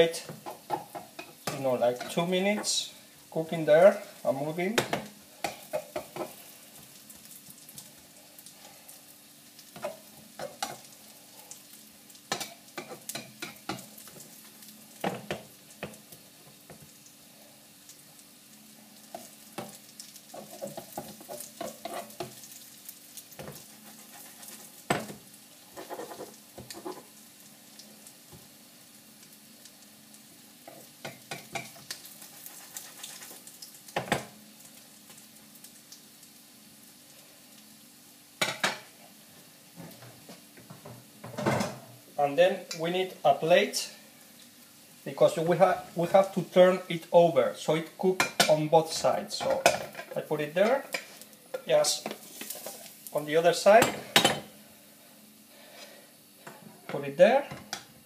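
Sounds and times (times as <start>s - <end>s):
omelette sizzling in a pan: 0.0s - 58.0s.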